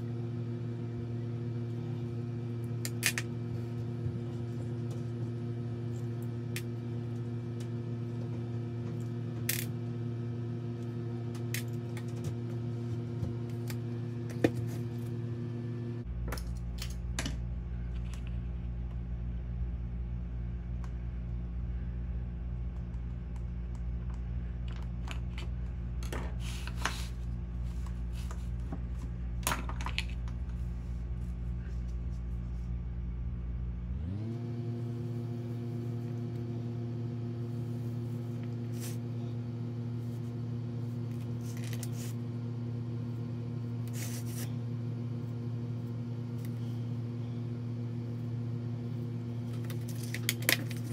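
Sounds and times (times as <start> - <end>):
low hum of held tones: 0.0 - 50.9.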